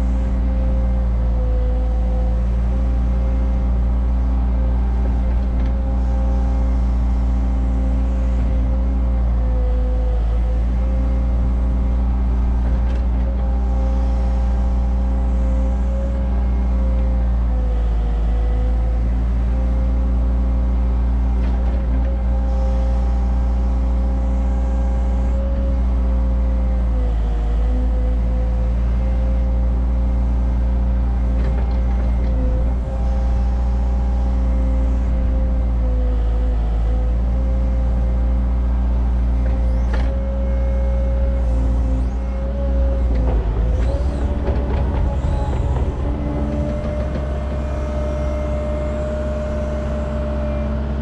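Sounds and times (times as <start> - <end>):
excavator diesel engine whining: 0.0 - 51.0.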